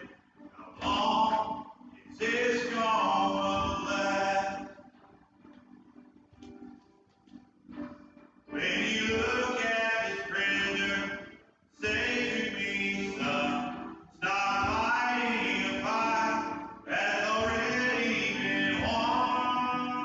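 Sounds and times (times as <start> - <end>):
church choir singing: 0.0 - 6.8, 7.7 - 20.0.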